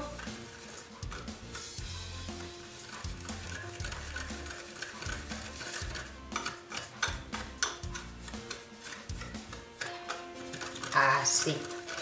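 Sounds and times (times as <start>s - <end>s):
soft background music: 0.0s - 12.0s
whisk scraping in glass bowl: 0.0s - 12.0s.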